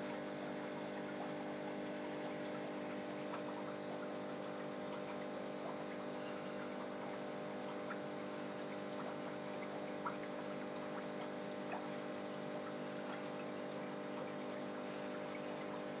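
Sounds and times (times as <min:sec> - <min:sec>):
aquarium pump humming: 0:00.0 - 0:16.0
water trickling: 0:00.0 - 0:16.0
water dripping: 0:00.2 - 0:16.0.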